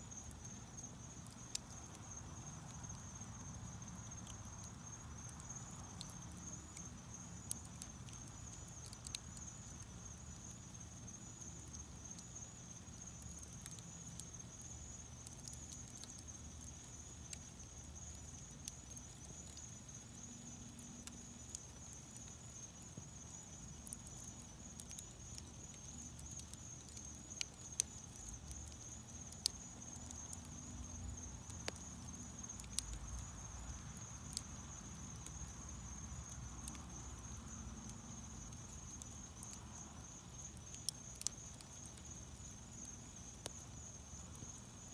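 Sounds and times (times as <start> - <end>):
wood fire crackling: 0.0 - 44.9
sharp pops from fire: 0.2 - 44.6.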